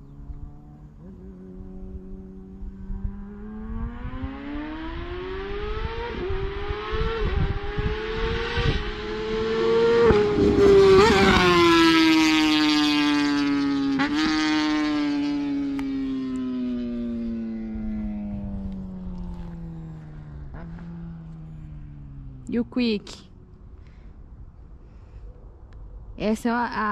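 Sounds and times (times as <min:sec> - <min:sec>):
motorcycle passing at speed: 0:00.0 - 0:24.2.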